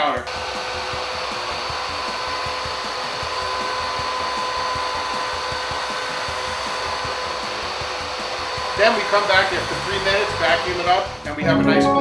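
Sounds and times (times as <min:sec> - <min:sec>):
vacuum cleaner motor whine: 0:00.2 - 0:11.4.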